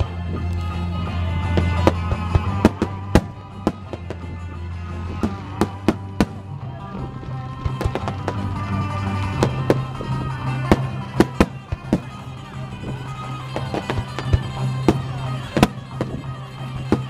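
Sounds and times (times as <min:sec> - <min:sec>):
fireworks cracking: 0:00.0 - 0:17.0
music: 0:00.0 - 0:17.0.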